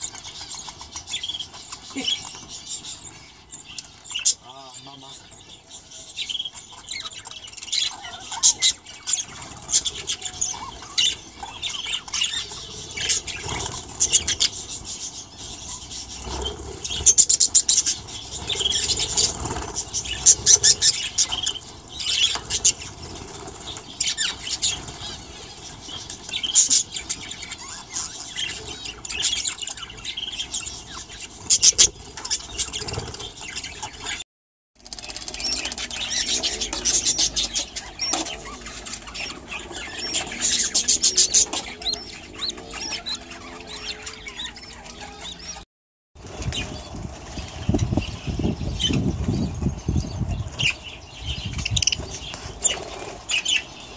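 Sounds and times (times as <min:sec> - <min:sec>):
budgerigars chattering: 0:00.0 - 0:34.2, 0:35.0 - 0:45.6.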